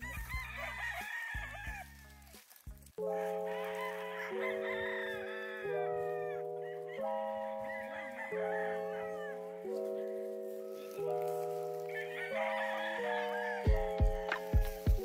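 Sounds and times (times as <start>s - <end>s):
background music with held chords: 0.0s - 15.0s
roosters crowing: 0.0s - 15.0s.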